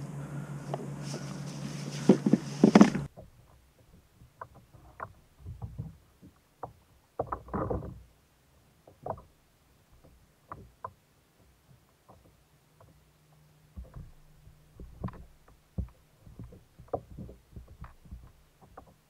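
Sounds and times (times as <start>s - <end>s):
light clicks and rustles: 0.6s - 8.1s, 9.9s - 19.0s.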